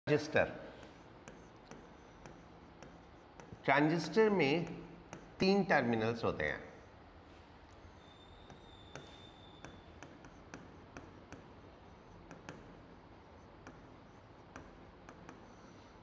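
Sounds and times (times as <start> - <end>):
writing taps and scratches: 0.8 - 5.6, 7.7 - 16.0.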